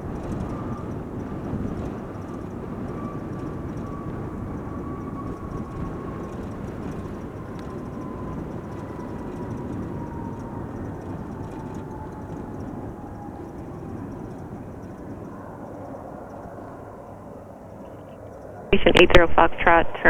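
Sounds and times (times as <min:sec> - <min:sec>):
jet engine rumble and whine: 0:00.0 - 0:20.0.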